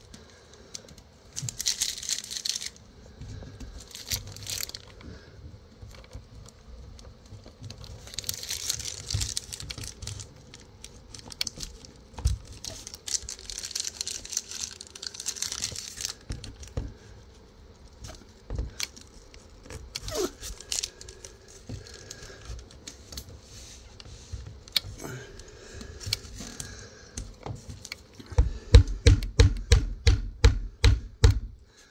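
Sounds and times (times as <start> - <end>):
rustling and crinkling: 0.0 - 28.8.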